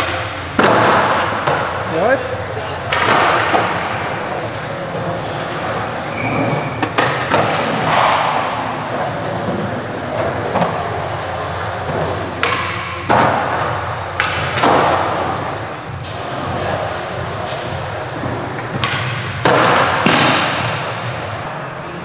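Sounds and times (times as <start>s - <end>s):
skateboard wheels rolling on concrete: 0.0s - 21.6s.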